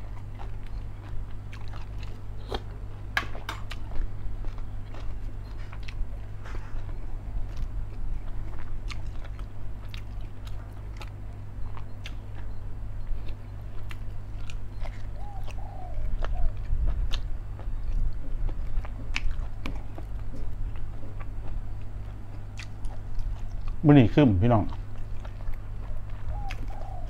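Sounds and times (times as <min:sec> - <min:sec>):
person chewing: 0:00.0 - 0:23.8, 0:24.6 - 0:27.0
steady low hum: 0:00.0 - 0:27.0.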